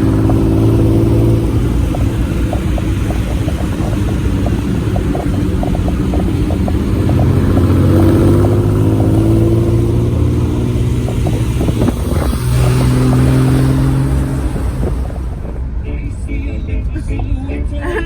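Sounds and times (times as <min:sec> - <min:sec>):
faint clicking: 0:00.0 - 0:15.6
car engine accelerating: 0:00.0 - 0:18.0.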